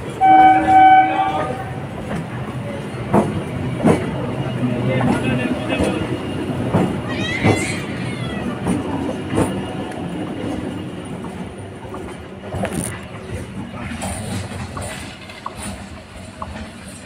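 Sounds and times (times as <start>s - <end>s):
electric train passing: 0.0s - 17.0s
train wheels clacking over rail joints: 2.0s - 17.0s.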